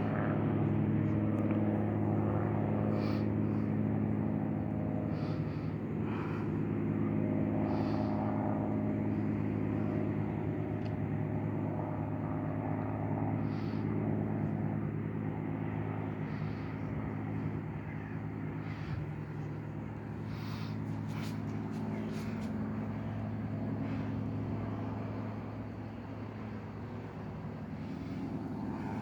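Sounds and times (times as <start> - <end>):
propeller plane engine droning: 0.0 - 29.0.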